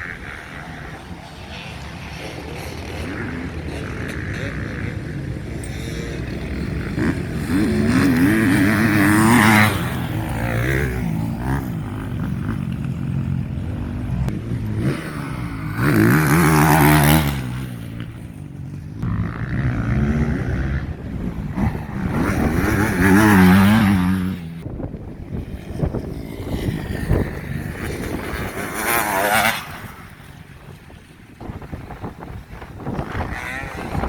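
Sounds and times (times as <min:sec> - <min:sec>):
motocross bikes revving past: 0:00.0 - 0:34.0.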